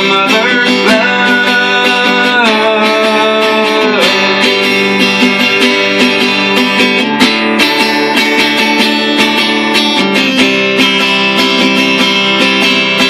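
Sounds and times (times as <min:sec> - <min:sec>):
sliding lead melody: 0:00.0 - 0:13.0
strummed acoustic guitar: 0:00.0 - 0:13.0.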